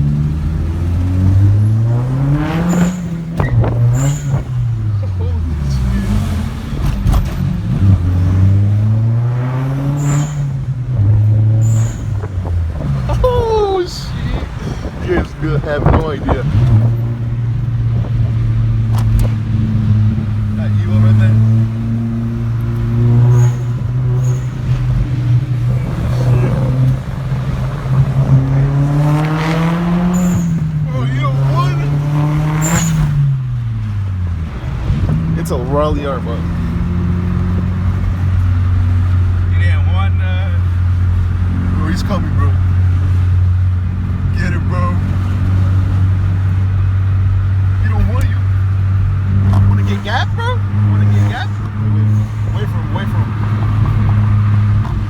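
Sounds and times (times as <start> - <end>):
car engine accelerating: 0.0 - 55.0
road rumble: 0.0 - 55.0.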